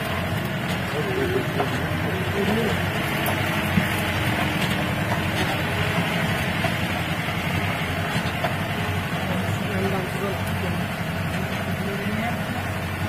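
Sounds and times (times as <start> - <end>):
vehicle engine on dirt trail: 0.0 - 13.0.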